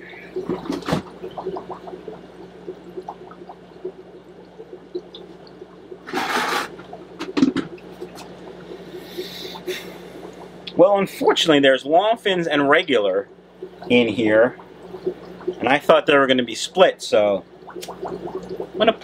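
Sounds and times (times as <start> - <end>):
steady low hum: 0.0 - 19.0
water sloshing in a bucket: 0.0 - 19.0.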